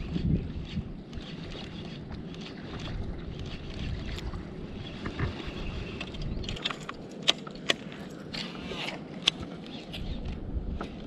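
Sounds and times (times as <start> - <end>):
water lapping against a hull: 0.0 - 11.0
wind on microphone: 0.0 - 11.0.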